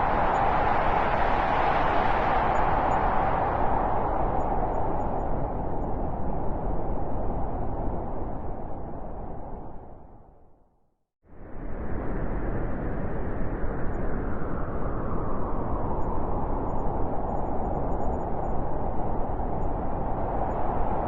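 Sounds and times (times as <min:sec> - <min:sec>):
blizzard wind rushing: 0:00.0 - 0:10.3, 0:11.3 - 0:21.0
high howling wind: 0:00.0 - 0:10.6, 0:11.3 - 0:21.0.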